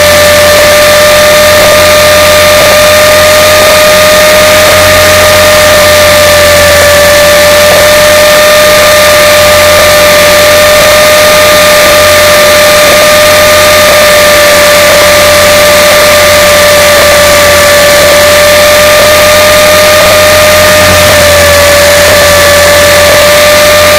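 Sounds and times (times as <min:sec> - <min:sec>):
high motor whine: 0:00.0 - 0:23.9
loud hiss: 0:00.0 - 0:23.9.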